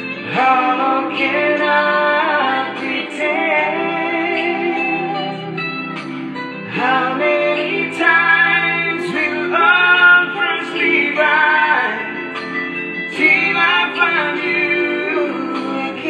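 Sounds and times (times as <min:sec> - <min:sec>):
person singing: 0:00.0 - 0:16.0
slow rock instrumental backing: 0:00.0 - 0:16.0.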